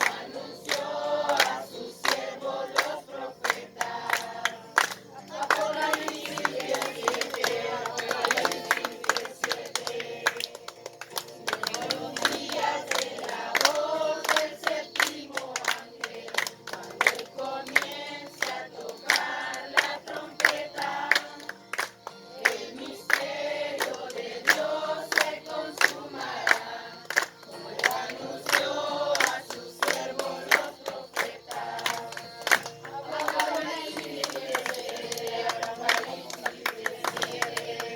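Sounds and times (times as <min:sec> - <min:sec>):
sharp claps: 0:00.0 - 0:37.9
voices singing together: 0:00.0 - 0:37.9.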